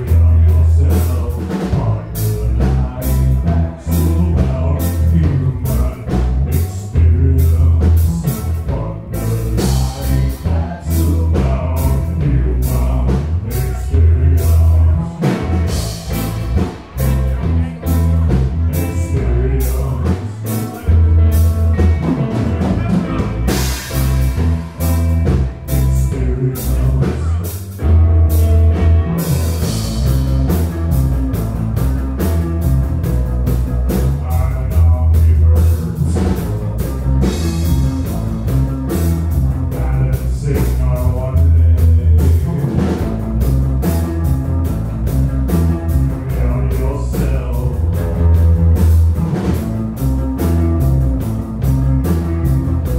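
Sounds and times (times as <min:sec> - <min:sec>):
rock band playing: 0:00.0 - 0:52.9.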